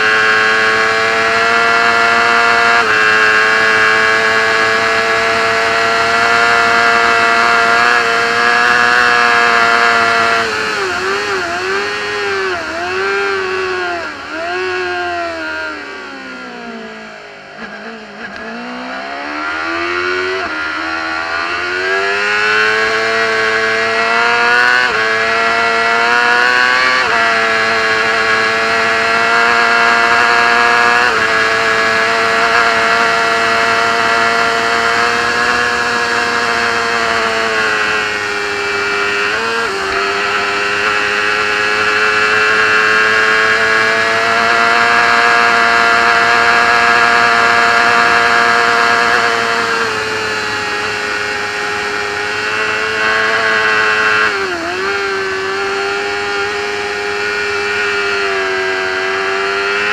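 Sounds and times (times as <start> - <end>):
racing motorcycle engine revving: 0.0 - 59.9.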